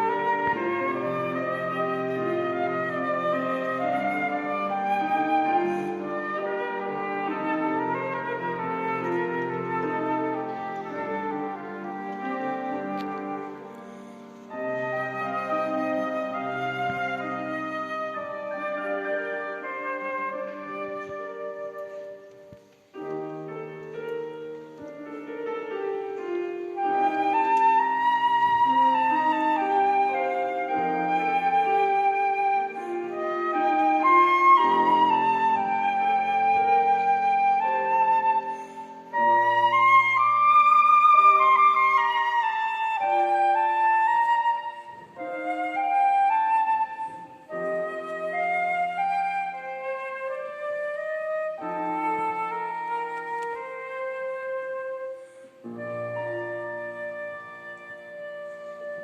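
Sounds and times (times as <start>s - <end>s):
flute: 0.0s - 59.0s
piano chords: 0.0s - 59.0s.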